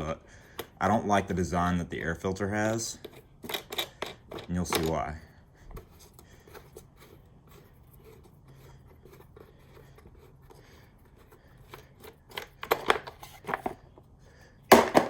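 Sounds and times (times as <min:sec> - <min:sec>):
quiet rubbing and handling: 0:00.0 - 0:14.6.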